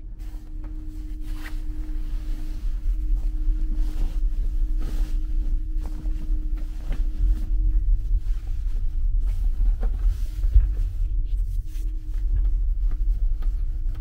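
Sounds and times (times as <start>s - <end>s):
bedding rustling: 0.0s - 14.0s
ferry engine drone: 0.0s - 14.0s.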